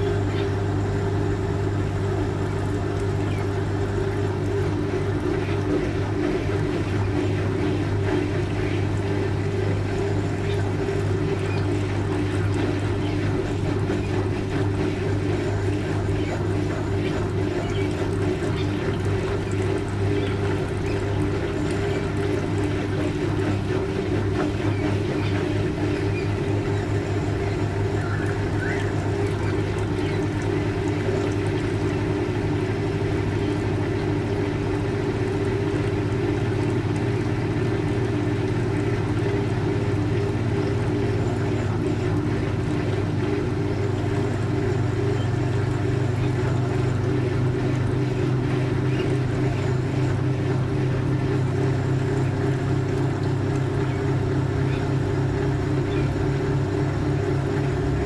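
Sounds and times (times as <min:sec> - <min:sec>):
washing machine agitating: 0:00.0 - 0:58.0.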